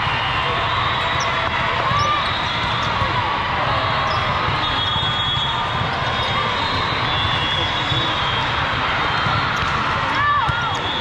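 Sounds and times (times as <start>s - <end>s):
volleyballs hit and bouncing: 0.0s - 11.0s.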